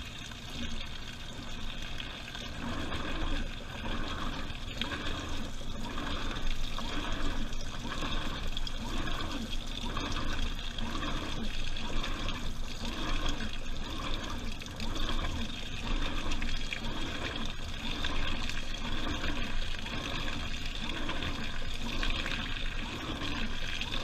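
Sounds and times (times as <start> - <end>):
washing machine drum sloshing: 0.0 - 24.0.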